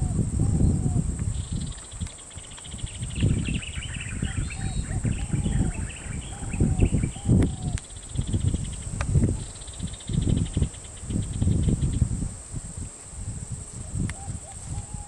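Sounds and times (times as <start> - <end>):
high-pitched insect whine: 0.0 - 15.0
insects trilling: 0.0 - 15.0.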